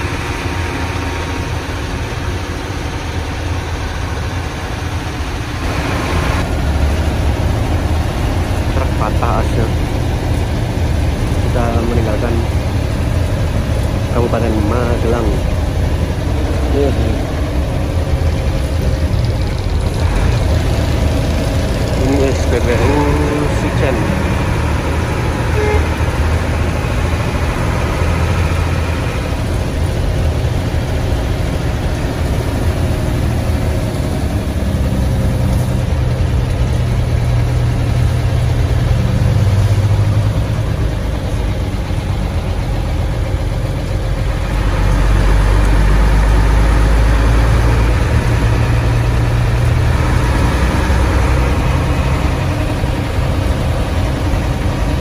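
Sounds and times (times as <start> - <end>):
bus engine with raspy exhaust: 0.0 - 55.0.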